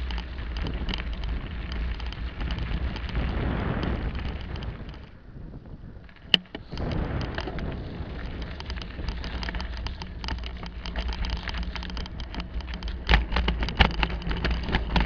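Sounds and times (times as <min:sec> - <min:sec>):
rattle of small clicks: 0:00.0 - 0:05.2, 0:06.0 - 0:15.0
bicycle jolting over bumps: 0:00.0 - 0:15.0
bicycle tyre rumble on concrete: 0:00.0 - 0:15.0.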